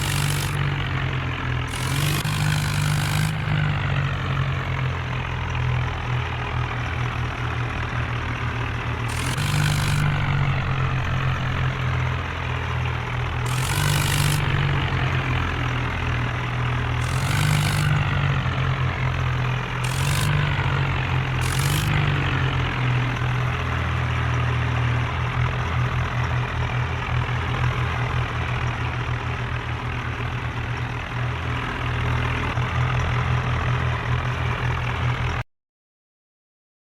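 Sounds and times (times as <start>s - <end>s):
tractor diesel engines under load: 0.0s - 35.4s.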